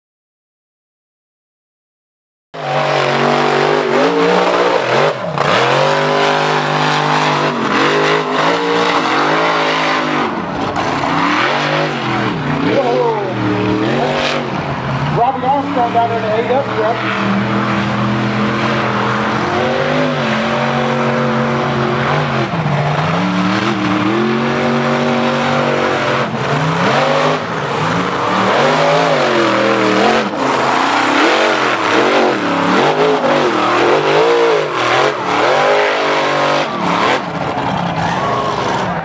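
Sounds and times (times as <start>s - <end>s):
tires churning mud: 2.6s - 39.0s
truck engine revving: 2.6s - 39.0s.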